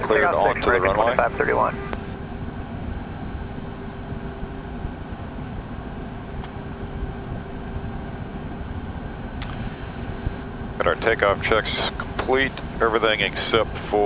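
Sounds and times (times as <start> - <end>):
faint steady hum: 0.0 - 14.0
jet engines idling: 0.0 - 14.0.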